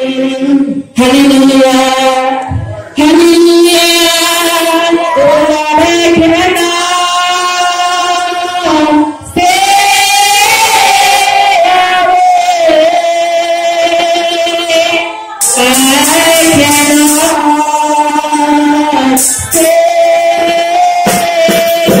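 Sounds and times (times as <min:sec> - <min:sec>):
woman singing into microphone: 0:00.0 - 0:22.0.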